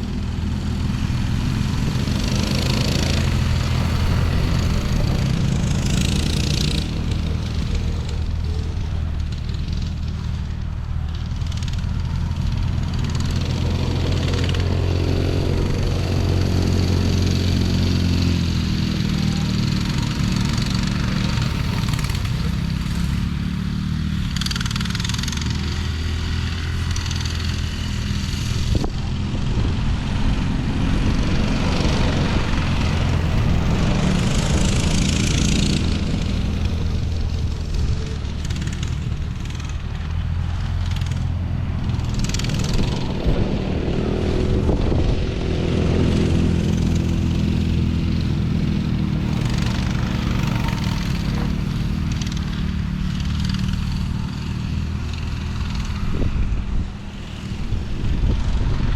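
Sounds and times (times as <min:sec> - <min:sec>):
off-road vehicle engine revving: 0:00.0 - 0:58.9.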